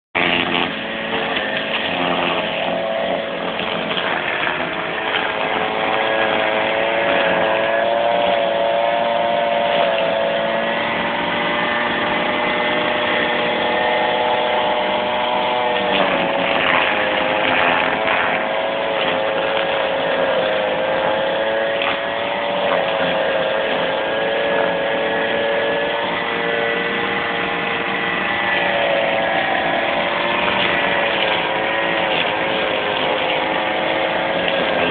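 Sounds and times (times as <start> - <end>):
brush cutter engine running: 0.1 - 34.9.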